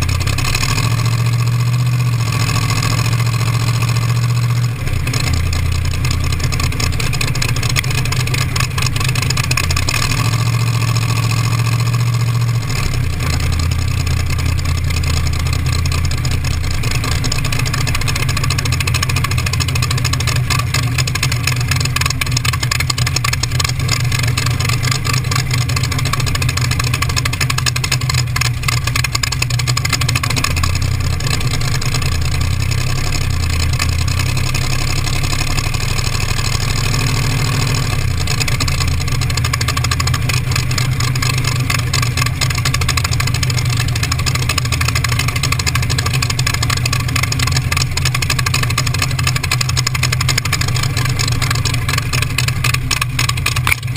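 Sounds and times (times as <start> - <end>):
hot rod engine rumbling: 0.0 - 53.9.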